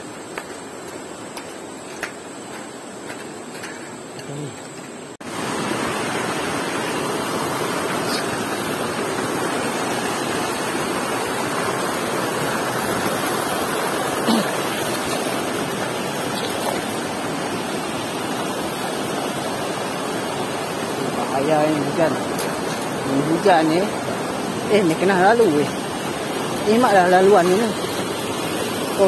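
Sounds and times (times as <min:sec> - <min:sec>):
river rushing over stones: 0:00.0 - 0:29.0.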